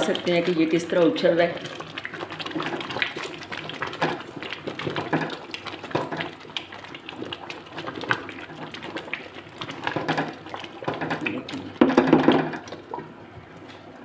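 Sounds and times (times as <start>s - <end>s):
pudding bubbling: 0.0s - 14.0s
spatula stirring: 1.6s - 13.0s.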